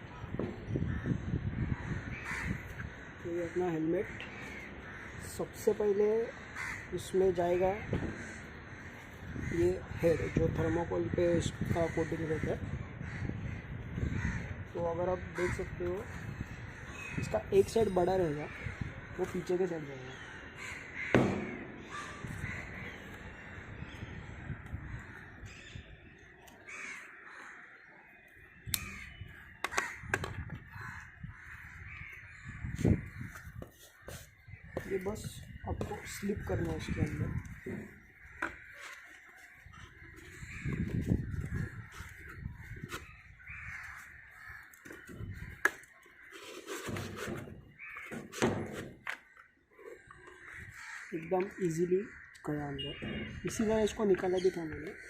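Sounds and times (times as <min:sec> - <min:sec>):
bird calls: 0:00.0 - 0:55.0
crows cawing: 0:00.0 - 0:55.0.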